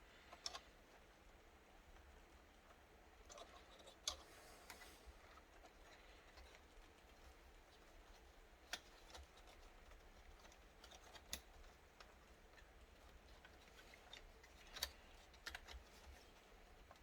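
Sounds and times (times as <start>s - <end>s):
small parts clicking and tapping: 0.3s - 0.7s, 2.0s - 17.0s.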